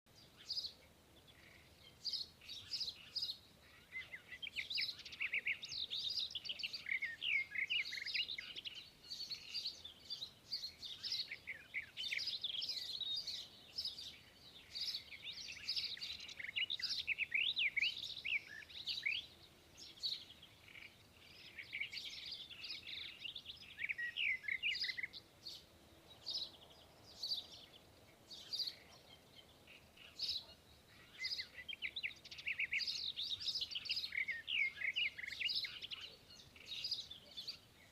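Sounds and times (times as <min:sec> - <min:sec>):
small birds chirping: 0:00.1 - 0:37.9.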